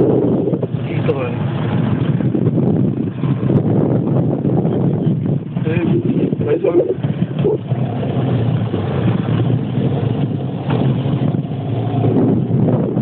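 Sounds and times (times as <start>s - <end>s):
boat motor rumbling: 0.0s - 13.0s
water noise: 0.0s - 13.0s
wind noise: 0.0s - 13.0s.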